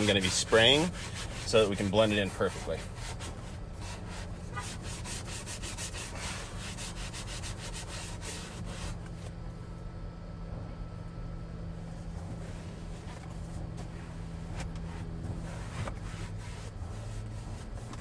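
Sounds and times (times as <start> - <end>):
pad scrubbing leather: 0.0 - 9.3, 12.5 - 18.0
steady low hum: 0.0 - 18.0.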